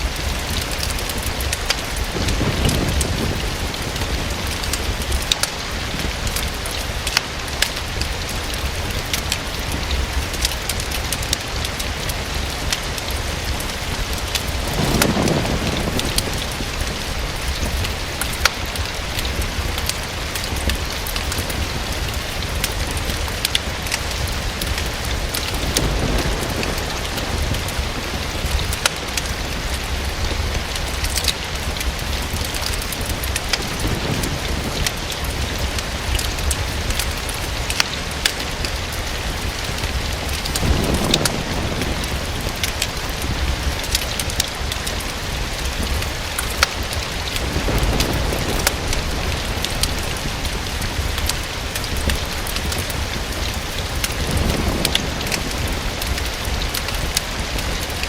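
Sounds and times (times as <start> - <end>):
rain against a window: 0.0 - 58.0
sharp ticks and pops: 0.0 - 58.0.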